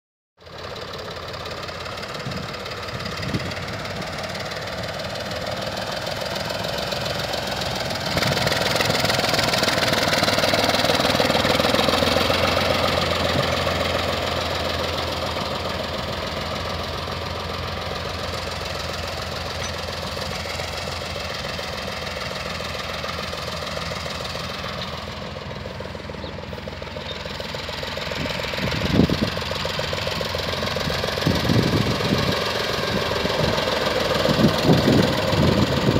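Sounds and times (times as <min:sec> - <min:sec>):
tractor diesel engine running: 0:00.4 - 0:35.9.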